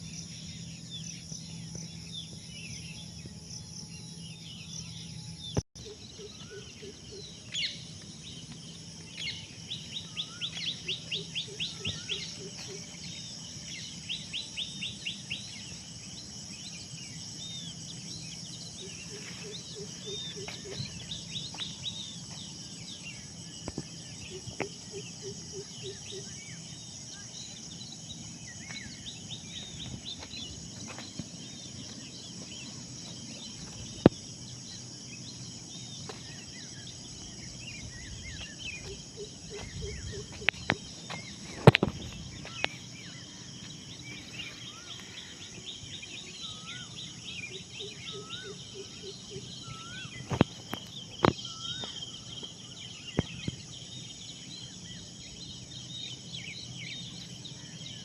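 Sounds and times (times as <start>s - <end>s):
birds chirping and whistling: 0.0s - 58.0s
high insect hum: 0.0s - 58.0s.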